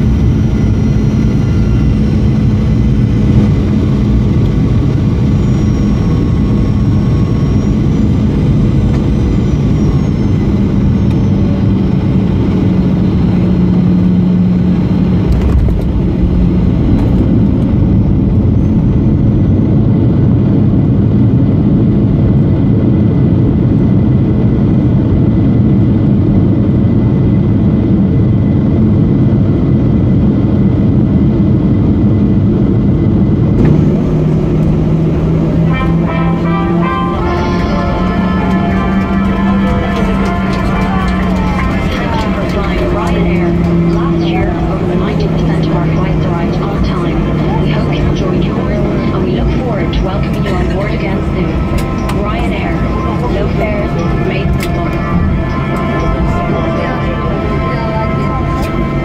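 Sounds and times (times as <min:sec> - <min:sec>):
jet engine rumble in cabin: 0:00.0 - 0:59.0
jet engine whine: 0:00.0 - 0:59.0.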